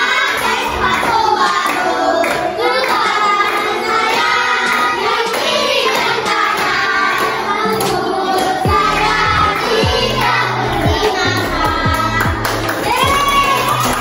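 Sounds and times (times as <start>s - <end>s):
children's song with singing: 0.0s - 14.0s.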